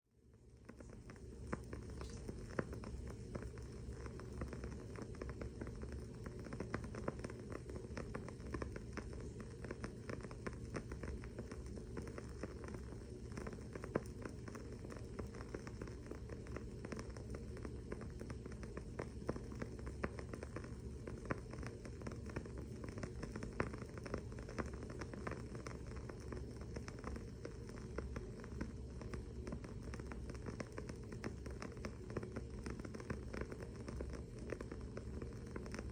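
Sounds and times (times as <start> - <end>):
candle wick crackling: 0.2 - 35.9.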